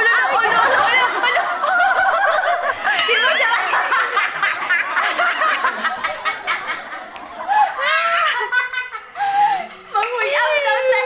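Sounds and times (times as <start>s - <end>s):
people laughing: 0.0s - 9.7s.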